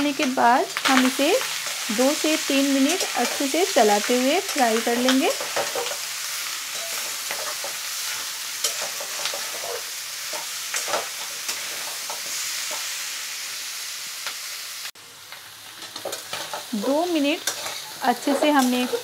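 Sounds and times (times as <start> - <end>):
food sizzling in hot oil: 0.0 - 19.0
metal spatula scraping a pan: 0.8 - 13.0, 15.8 - 19.0.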